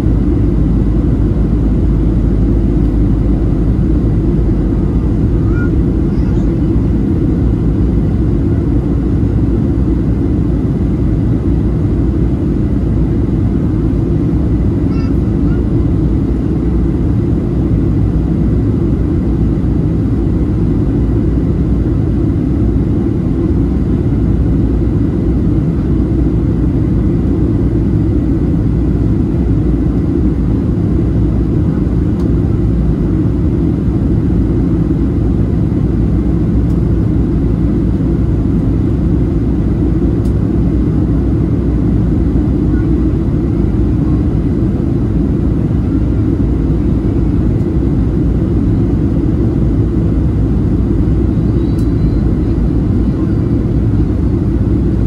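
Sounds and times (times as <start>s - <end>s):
jet engines humming: 0.0s - 55.0s.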